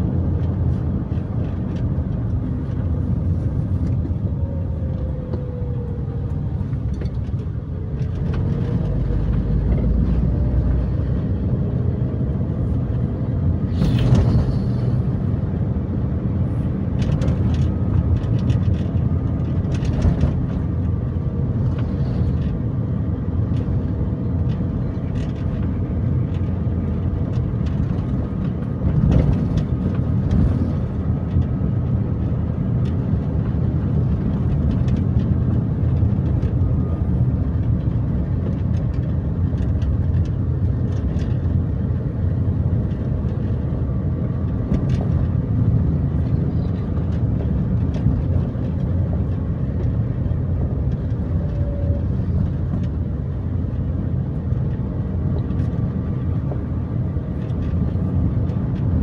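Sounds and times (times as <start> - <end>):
car cabin engine and tyre rumble: 0.0 - 59.0.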